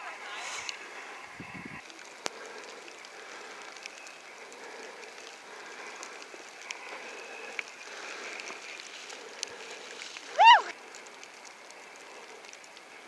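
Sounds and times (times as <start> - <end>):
outdoor air hiss: 0.0 - 12.2
small sharp ticks: 1.8 - 13.0.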